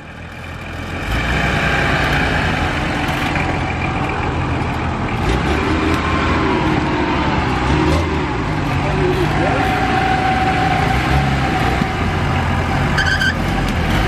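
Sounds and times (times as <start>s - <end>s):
suv engine crawling through mud: 0.0s - 14.0s.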